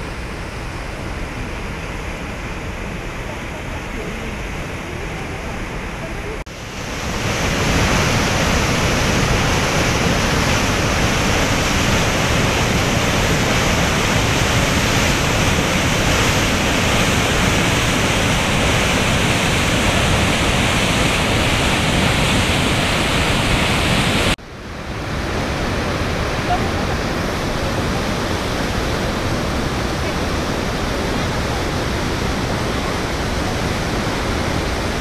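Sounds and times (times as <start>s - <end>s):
waterfall rushing over rock: 0.0s - 35.0s.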